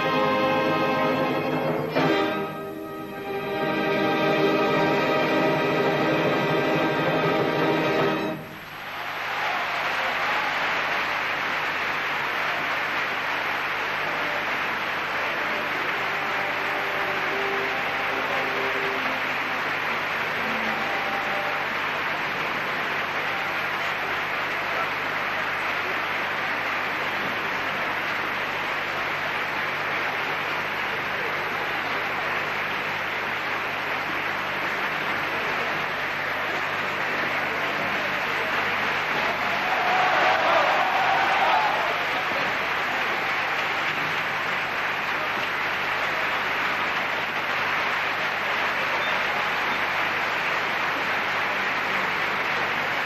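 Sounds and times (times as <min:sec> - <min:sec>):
audience applauding: 0:00.0 - 0:53.0.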